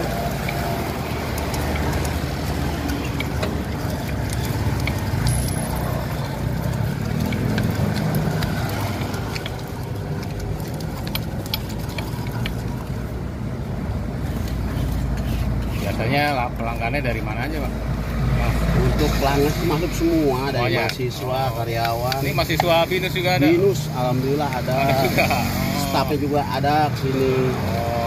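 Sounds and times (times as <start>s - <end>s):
low rumble of traffic: 0.0s - 28.0s
pestle scraping stone mortar: 0.0s - 28.0s.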